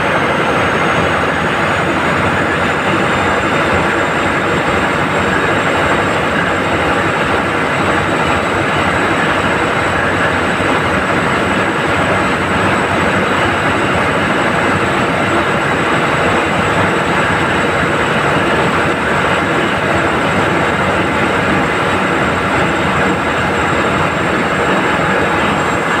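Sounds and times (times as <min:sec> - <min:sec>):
ship diesel engine running: 0:00.0 - 0:26.0.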